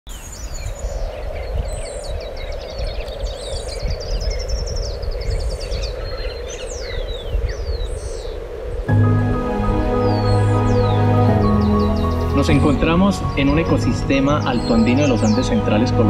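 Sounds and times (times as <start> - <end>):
birds trilling and calling: 0.2 - 8.9, 9.8 - 16.0.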